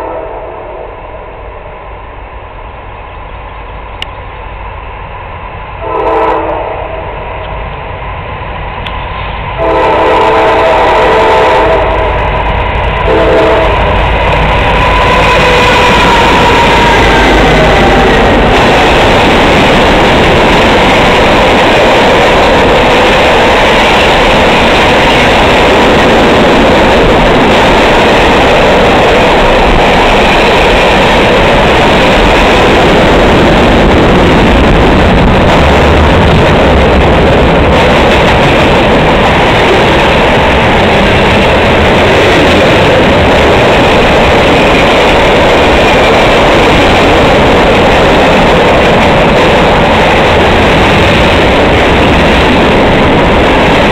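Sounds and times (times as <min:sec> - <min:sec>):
train wheels rolling on rails: 0:00.0 - 0:53.9.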